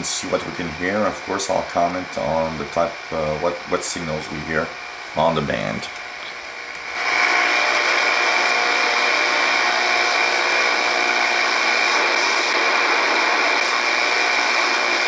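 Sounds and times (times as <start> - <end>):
shortwave radio static hiss: 0.0 - 15.0.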